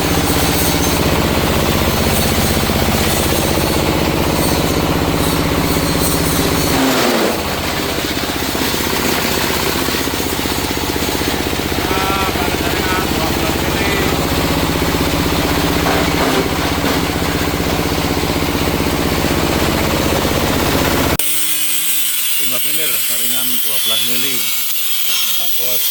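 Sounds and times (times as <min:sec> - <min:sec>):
grinding machine running: 0:00.0 - 0:25.9.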